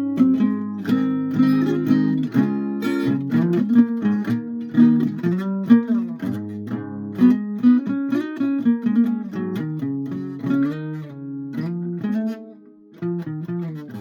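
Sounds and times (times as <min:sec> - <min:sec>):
guitar strumming and picking: 0:00.0 - 0:14.0.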